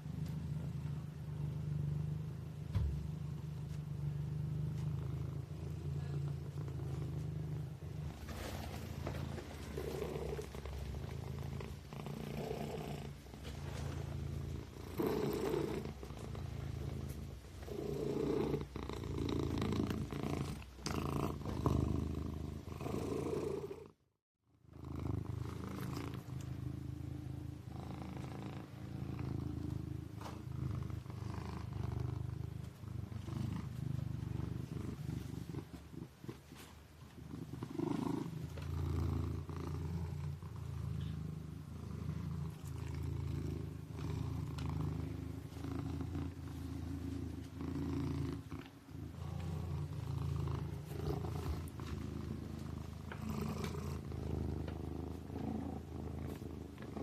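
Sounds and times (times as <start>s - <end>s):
kitten purring: 0.0s - 24.0s, 24.6s - 57.0s.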